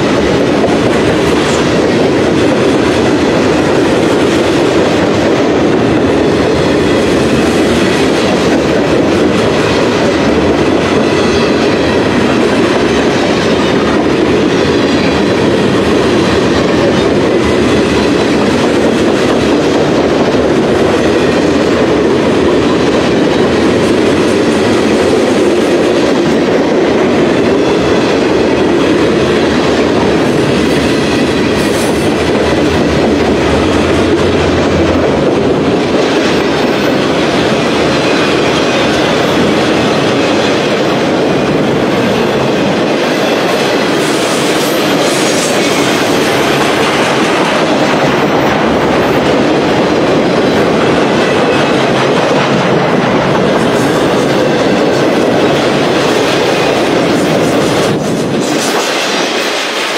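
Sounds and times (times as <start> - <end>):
clickety-clack over rail joints: 0.0 - 59.9
freight train cars rolling: 0.0 - 59.9.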